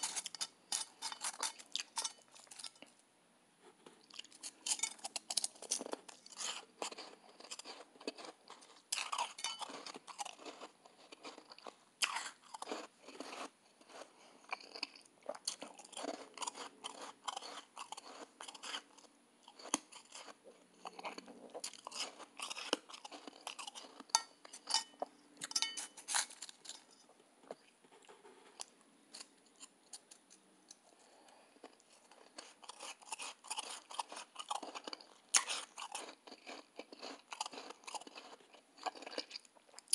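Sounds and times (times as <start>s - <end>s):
person chewing ice: 0.0s - 2.9s, 4.0s - 24.8s, 25.4s - 39.9s.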